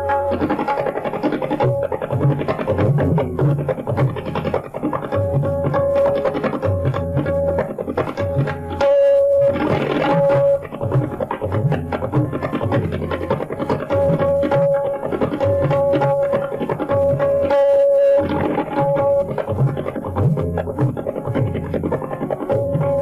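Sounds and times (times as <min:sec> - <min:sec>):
tabla drum strokes: 0:00.0 - 0:23.0.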